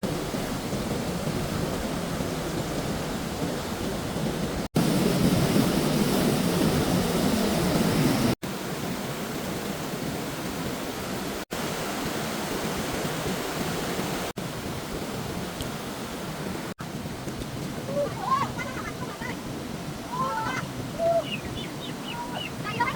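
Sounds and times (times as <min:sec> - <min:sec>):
floodwater rushing: 0:00.0 - 0:22.9.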